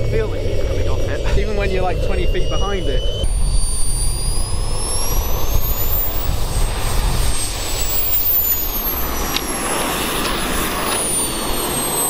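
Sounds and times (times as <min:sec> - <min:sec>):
turbine engine whine: 0:00.0 - 0:12.0.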